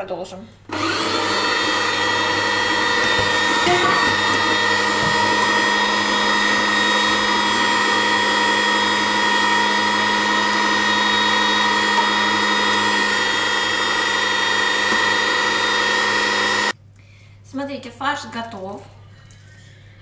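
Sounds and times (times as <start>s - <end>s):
electric meat grinder motor: 0.7s - 16.8s.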